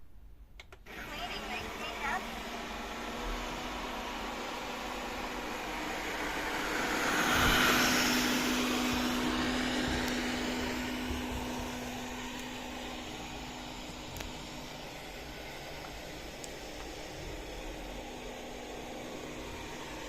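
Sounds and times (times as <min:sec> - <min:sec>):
robot vacuum cleaner whirring: 0:00.9 - 0:20.0.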